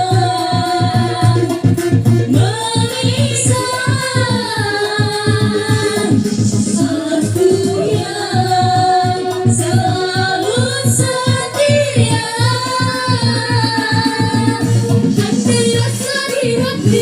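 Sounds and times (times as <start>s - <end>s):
keyboard accompaniment with beat: 0.0s - 17.0s.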